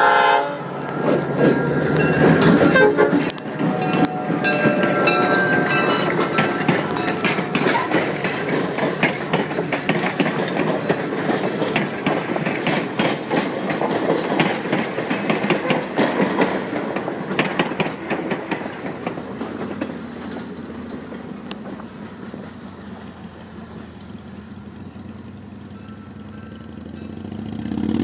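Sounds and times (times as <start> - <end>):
train rumble: 0.0 - 28.0
train wheels clicking over rail joints: 0.7 - 28.0.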